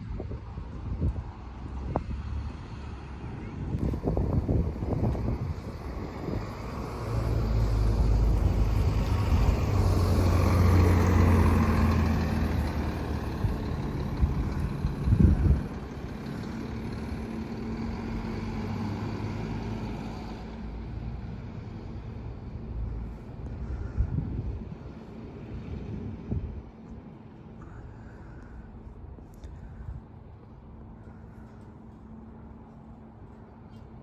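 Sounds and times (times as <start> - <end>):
heavy vehicle engine running: 3.1 - 34.0.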